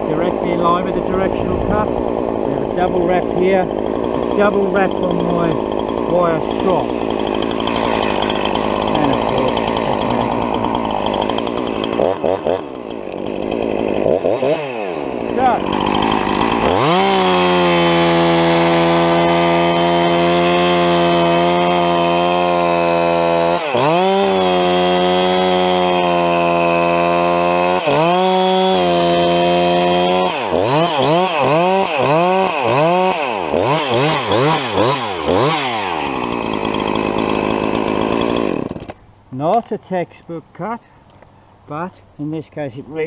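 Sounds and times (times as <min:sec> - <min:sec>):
chainsaw cutting at full throttle: 0:00.0 - 0:39.1.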